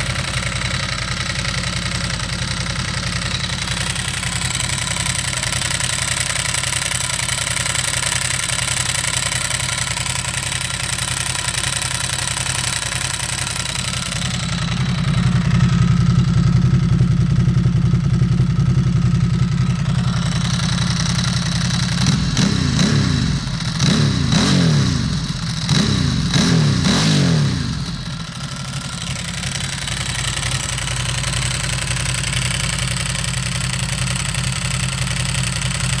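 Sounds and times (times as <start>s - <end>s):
dry clutch rattle: 0.0s - 36.0s
motorcycle engine idling and revving: 0.0s - 36.0s.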